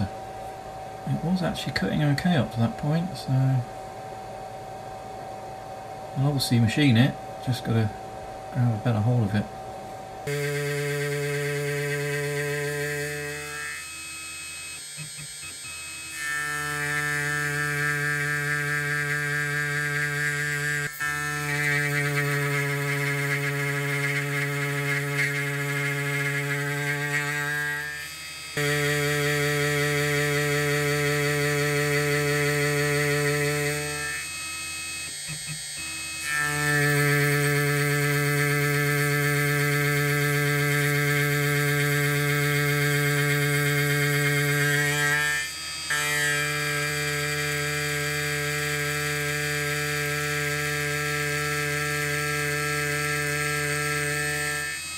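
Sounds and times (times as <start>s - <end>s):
router spindle whine cutting metal: 10.3s - 54.9s.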